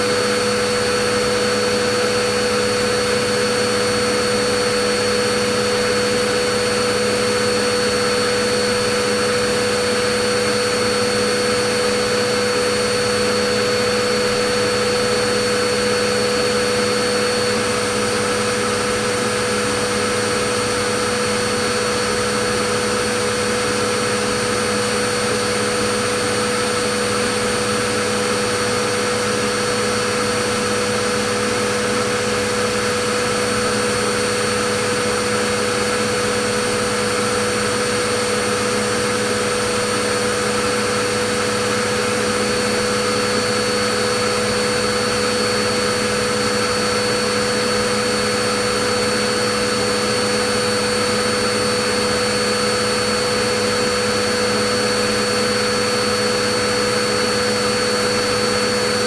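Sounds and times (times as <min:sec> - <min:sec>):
vacuum cleaner motor running: 0:00.0 - 0:59.0.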